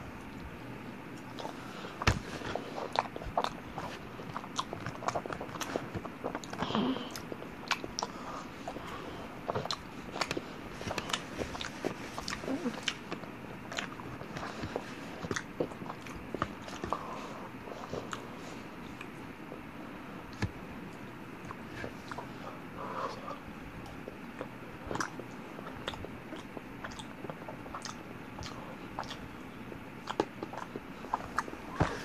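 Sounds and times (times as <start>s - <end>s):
person chewing with mouth clicks: 1.1s - 19.6s, 23.3s - 32.0s.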